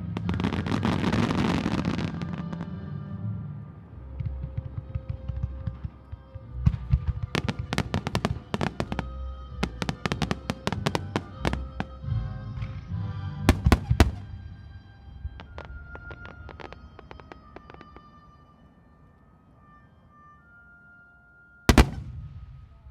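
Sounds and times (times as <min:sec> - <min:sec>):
fireworks bangs and crackles: 0:00.0 - 0:03.0, 0:03.9 - 0:18.6, 0:21.7 - 0:22.9
music with sustained notes: 0:00.0 - 0:22.9.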